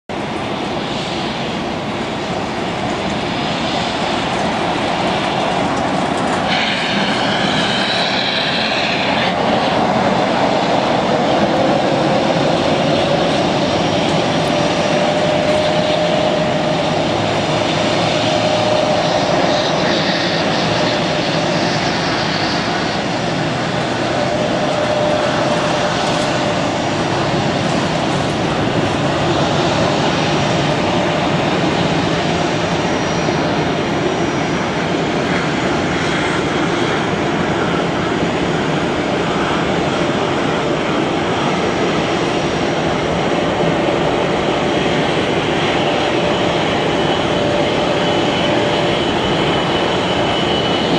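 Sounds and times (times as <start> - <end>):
jet engines rushing: 0.1 - 50.9.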